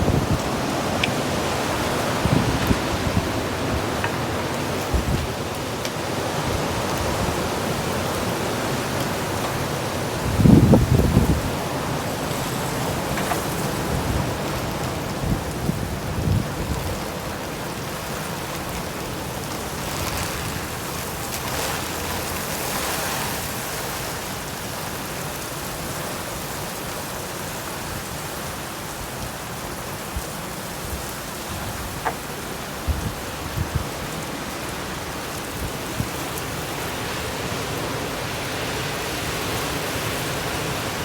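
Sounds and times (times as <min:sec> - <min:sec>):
heavy rain and wind: 0:00.0 - 0:41.0.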